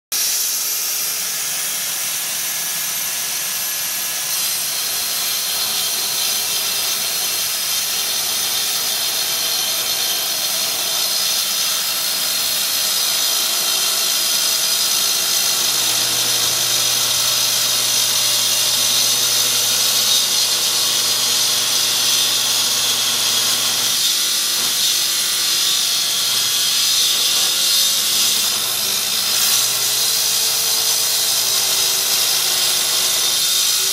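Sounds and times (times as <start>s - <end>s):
track saw cutting wood: 0.2s - 33.9s.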